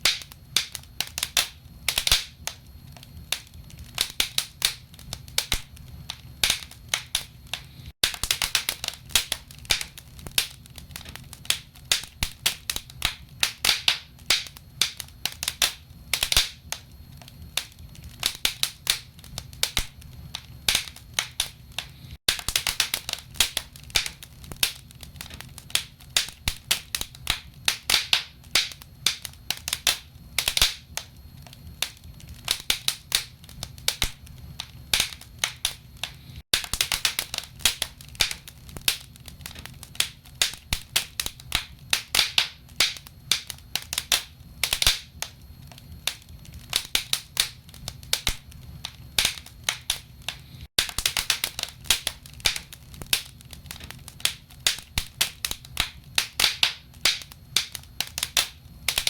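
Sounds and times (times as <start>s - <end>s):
logs crackling and popping: 0.0s - 59.0s
low fire rumble: 0.0s - 59.0s.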